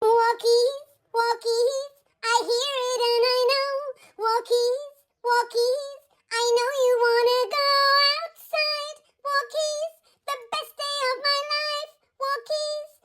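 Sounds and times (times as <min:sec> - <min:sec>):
high child-like singing voice: 0:00.0 - 0:13.0.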